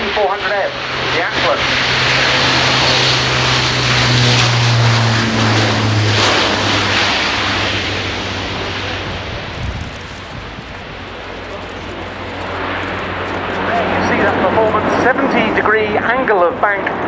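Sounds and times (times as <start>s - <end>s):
propeller aircraft taking off: 0.0s - 17.0s.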